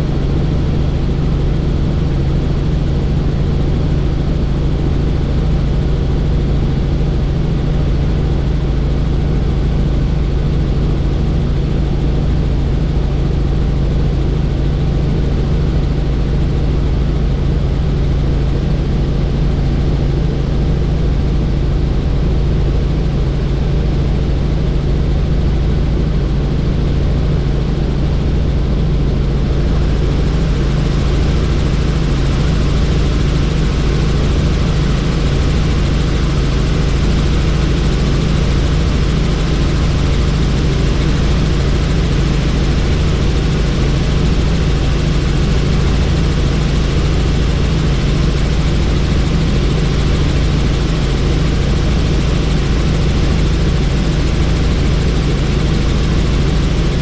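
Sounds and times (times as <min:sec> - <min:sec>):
helicopter rotor and turbine drone: 0:00.0 - 0:57.0.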